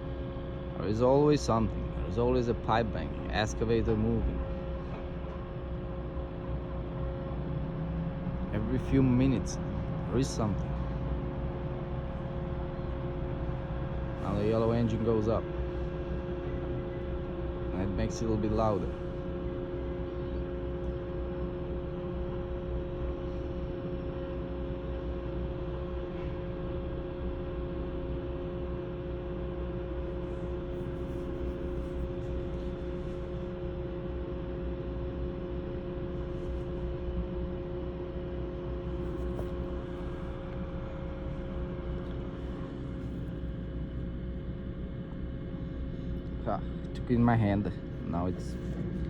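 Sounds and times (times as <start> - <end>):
constant machine hum: 0.0 - 49.0.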